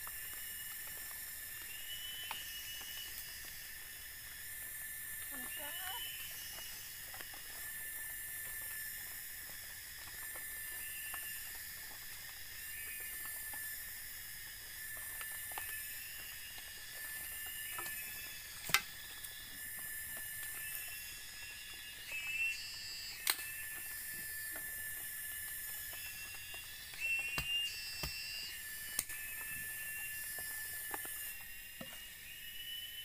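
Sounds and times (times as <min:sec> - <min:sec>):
insect chirps: 0:00.0 - 0:33.0
insects droning: 0:00.0 - 0:33.0.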